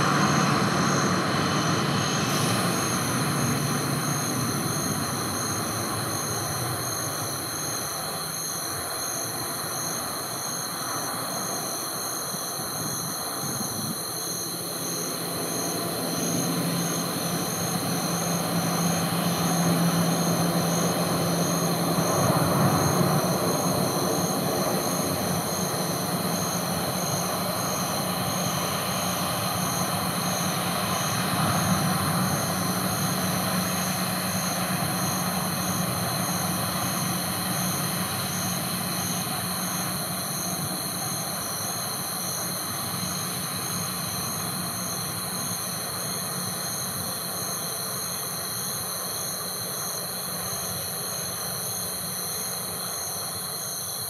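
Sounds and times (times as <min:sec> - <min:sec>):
jet engines droning: 0:00.0 - 0:48.7.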